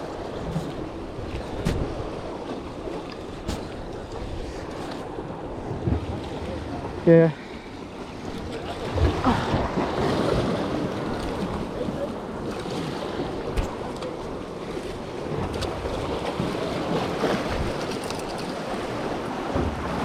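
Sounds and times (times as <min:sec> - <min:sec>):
ocean waves washing in: 0:00.0 - 0:20.0.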